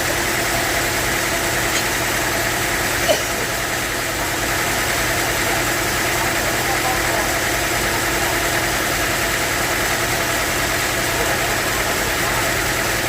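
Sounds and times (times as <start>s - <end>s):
sawmill machinery running: 0.0s - 13.0s.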